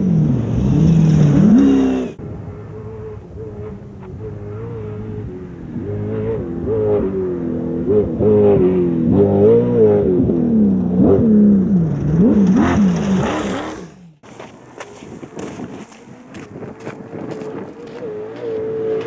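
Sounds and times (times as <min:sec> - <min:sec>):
car engine under load: 0:00.0 - 0:19.0.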